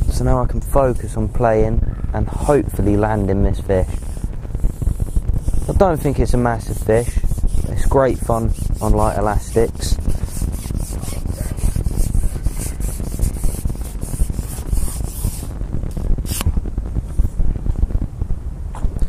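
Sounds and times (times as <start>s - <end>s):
rustling hiss: 0.0s - 18.1s
wind buffeting microphone: 0.0s - 19.0s.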